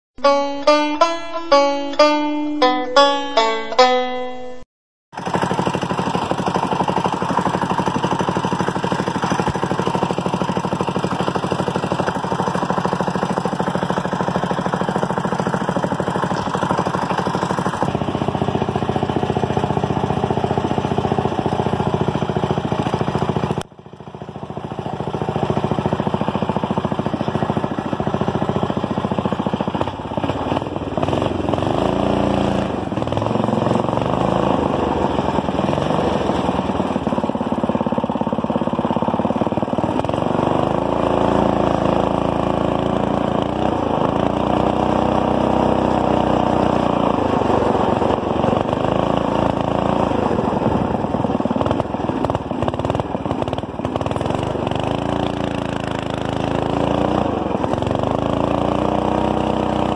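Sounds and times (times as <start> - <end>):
go-kart engine running: 5.1 - 59.9.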